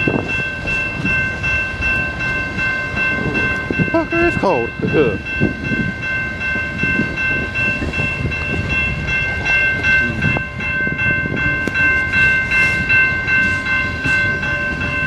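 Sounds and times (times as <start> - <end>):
crossing warning bell ringing: 0.0 - 15.0
train wheels rumbling on rails: 0.0 - 15.0.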